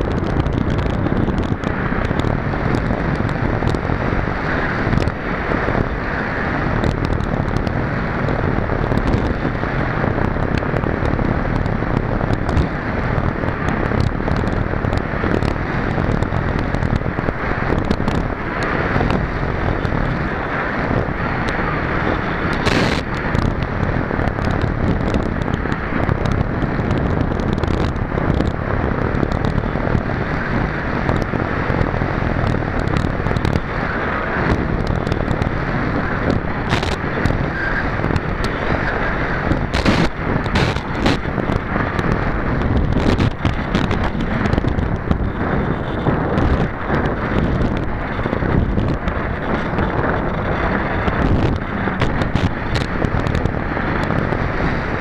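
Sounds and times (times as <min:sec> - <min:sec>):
crackles and pops: 0:00.0 - 0:55.0
wind noise on microphone: 0:00.0 - 0:55.0.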